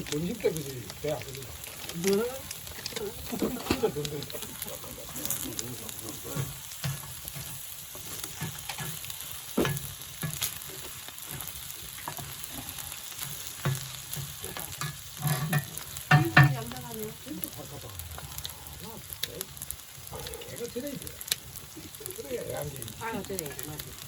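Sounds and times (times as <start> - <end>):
pork sizzling on a griddle: 0.0 - 24.0.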